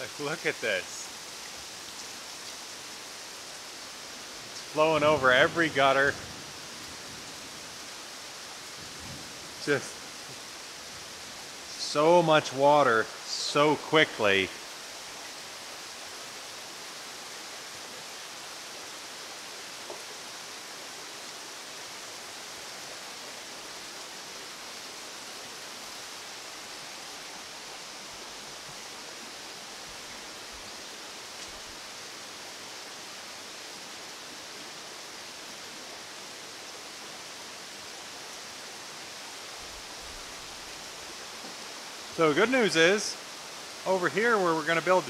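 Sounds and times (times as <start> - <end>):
rainwater pouring over gutters: 0.0 - 34.6, 36.9 - 45.0
heavy downpour: 0.0 - 45.0.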